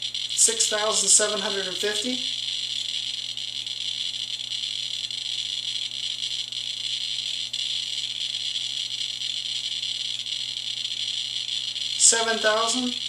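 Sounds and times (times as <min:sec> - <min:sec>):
geiger counter buzzing clicks: 0:00.0 - 0:13.0.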